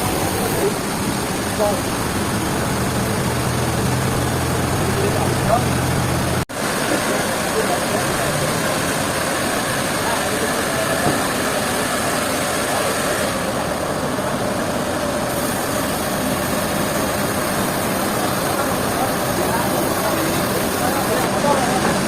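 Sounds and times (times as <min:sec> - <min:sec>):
sawmill machinery running: 0:00.0 - 0:22.0.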